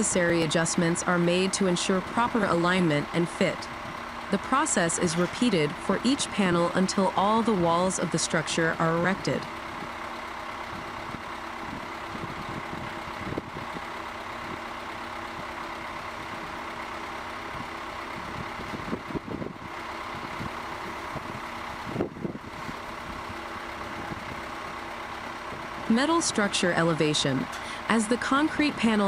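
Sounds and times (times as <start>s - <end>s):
heavy machinery engine running: 0.0s - 29.0s.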